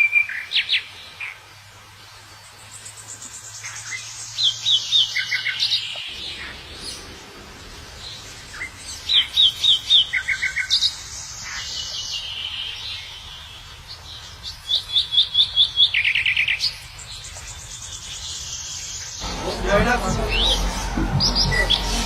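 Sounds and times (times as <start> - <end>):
birds singing: 0.0 - 19.3.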